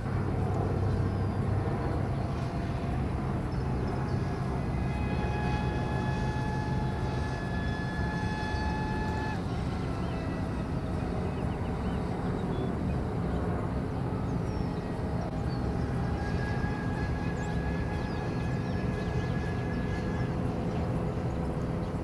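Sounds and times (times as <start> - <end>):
distant vehicle rumble: 0.0 - 22.0
steady whine: 0.0 - 22.0.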